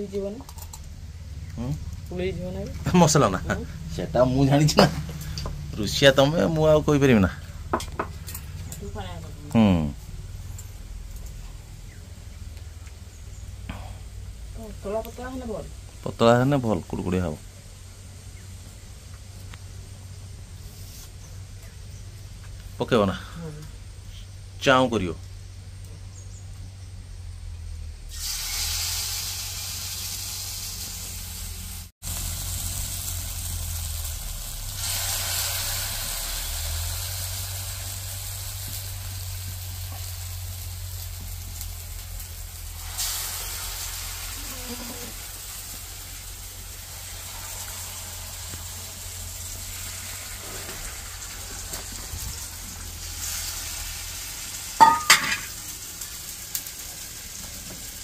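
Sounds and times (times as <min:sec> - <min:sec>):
batter frying in hot oil: 0:00.0 - 0:58.0.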